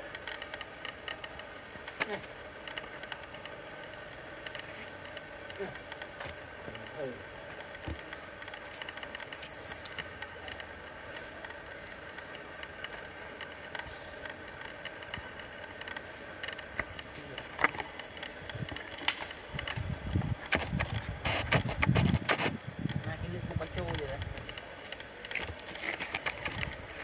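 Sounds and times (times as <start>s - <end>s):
faint high hum: 0.0s - 27.0s
rustles: 0.0s - 27.0s.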